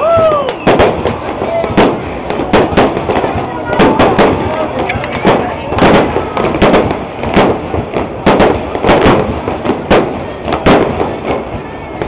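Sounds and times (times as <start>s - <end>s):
fireworks shells bursting: 0.2s - 12.0s.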